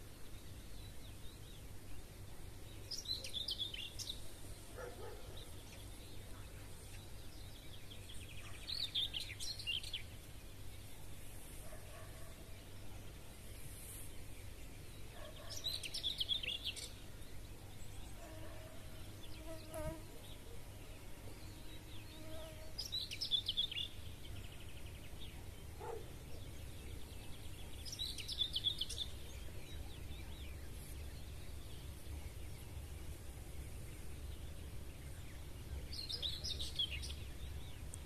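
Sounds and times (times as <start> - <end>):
low outdoor background: 0.0 - 38.0.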